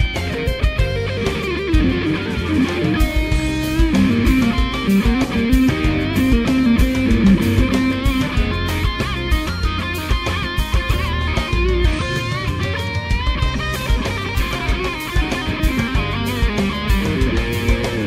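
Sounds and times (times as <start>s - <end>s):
electric guitar lead line: 0.0s - 18.0s
steady beat: 0.0s - 18.0s.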